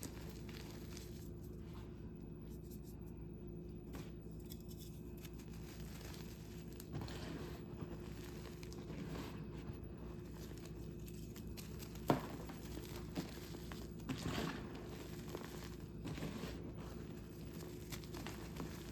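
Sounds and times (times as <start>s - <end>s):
chalk crumbling and crunching: 0.0s - 3.1s, 3.9s - 18.9s
soft crackles: 0.0s - 3.2s, 5.0s - 18.9s.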